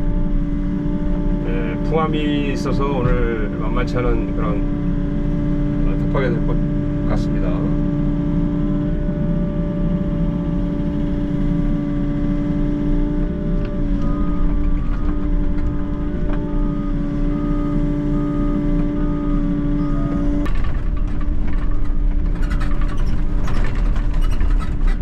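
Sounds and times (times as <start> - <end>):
diesel engine running: 0.0 - 25.0
hydraulic whine: 0.0 - 25.0.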